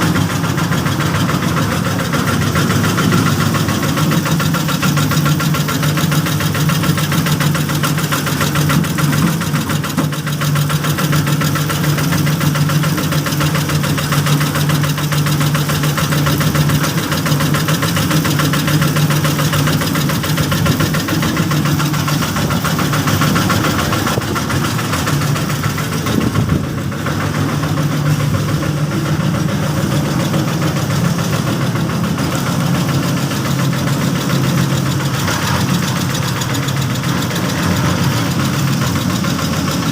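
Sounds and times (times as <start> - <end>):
small engine knocking steadily: 0.0 - 39.9.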